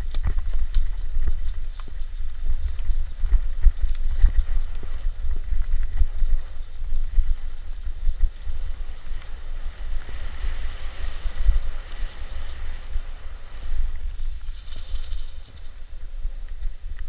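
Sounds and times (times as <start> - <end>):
steady hiss: 0.0 - 17.0
wind buffeting microphone: 0.0 - 17.0.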